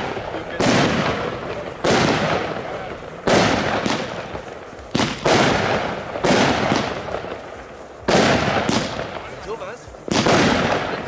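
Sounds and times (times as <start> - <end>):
faint firework pops: 0.0 - 11.0
firework bangs: 0.0 - 11.0.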